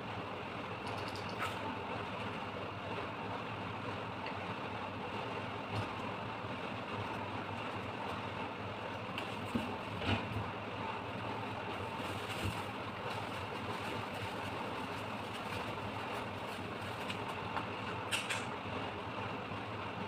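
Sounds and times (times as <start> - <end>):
mechanical hum and hiss: 0.0 - 20.0.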